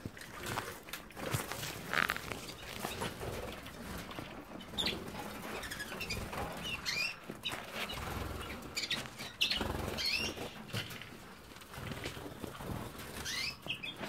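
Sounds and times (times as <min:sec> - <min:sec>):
canaries fluttering wings: 0:01.2 - 0:14.0.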